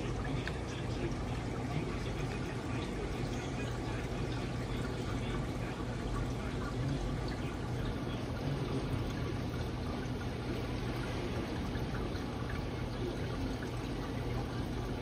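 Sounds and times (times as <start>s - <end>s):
aquarium water trickling: 0.0s - 15.0s
low steady hum: 0.0s - 15.0s.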